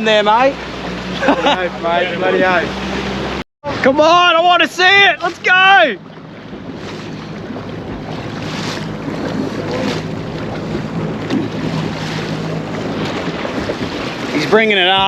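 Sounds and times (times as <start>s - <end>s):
boat engine hum: 0.0s - 15.0s
water rushing past hull: 0.0s - 15.0s
wind buffeting microphone: 0.1s - 15.0s.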